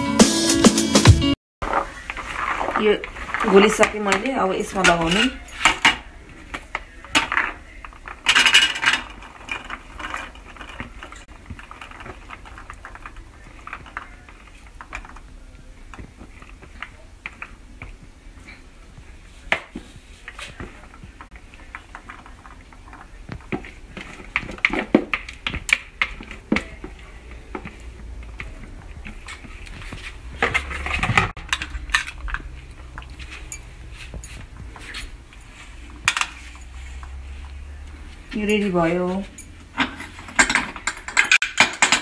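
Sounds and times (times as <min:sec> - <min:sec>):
spoon stirring and scraping bowl: 0:01.6 - 0:41.5.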